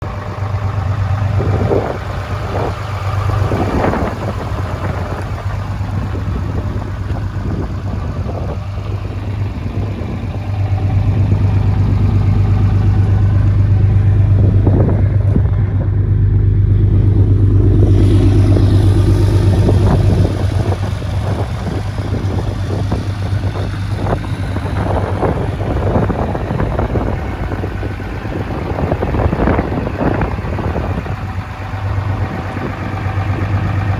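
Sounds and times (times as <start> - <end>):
truck engine idling and revving: 0.0 - 33.9.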